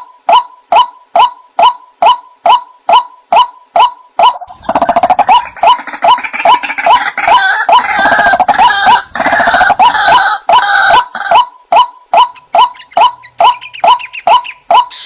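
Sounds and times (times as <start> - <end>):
overlapping chatter of bird calls: 0.0 - 15.0.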